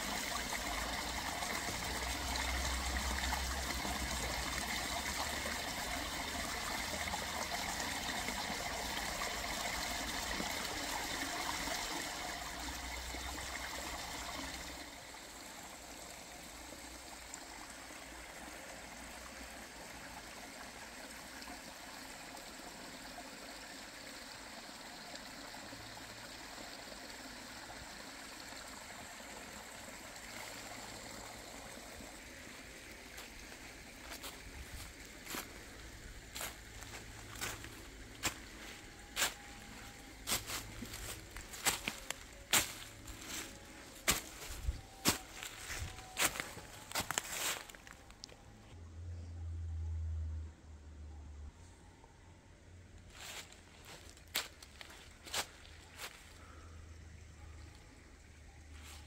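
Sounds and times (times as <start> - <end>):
stream trickling over stones: 0.0 - 48.7, 52.9 - 59.0.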